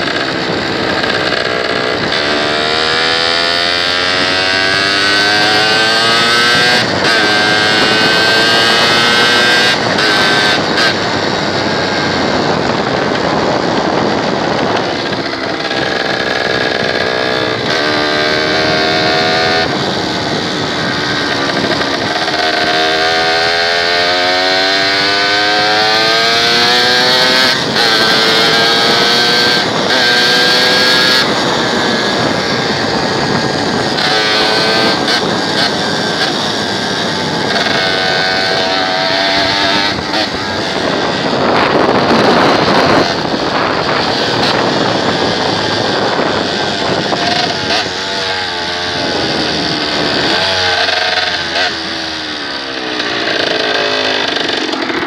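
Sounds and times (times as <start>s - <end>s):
motorcycle engine revving: 0.0s - 55.0s
wind noise on microphone: 0.0s - 55.0s.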